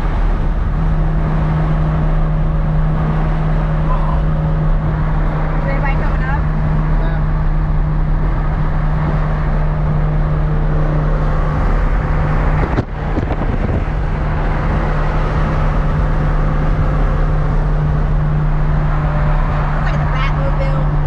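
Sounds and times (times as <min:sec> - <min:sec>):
car engine cruising: 0:00.0 - 0:21.0
road noise: 0:00.0 - 0:21.0.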